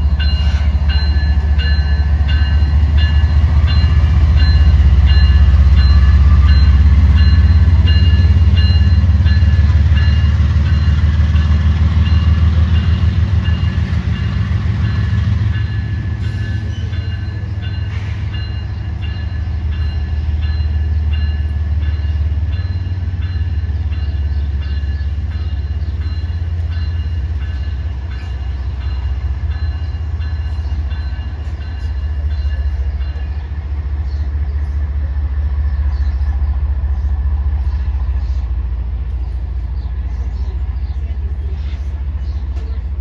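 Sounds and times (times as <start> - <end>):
rail vehicle engine idling: 0.0 - 43.0.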